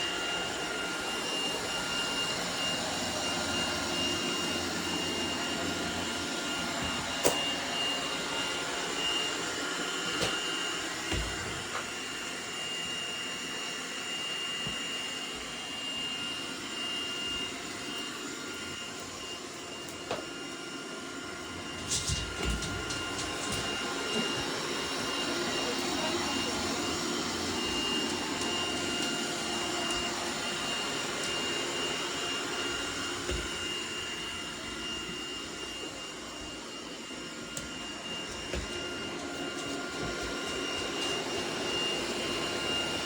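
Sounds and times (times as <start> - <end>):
robot vacuum cleaner humming: 0.0 - 43.0.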